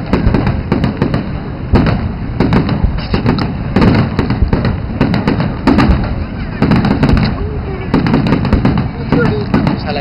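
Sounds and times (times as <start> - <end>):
continuous low rumble: 0.0 - 10.0
fireworks bursting with sharp bangs: 0.0 - 10.0.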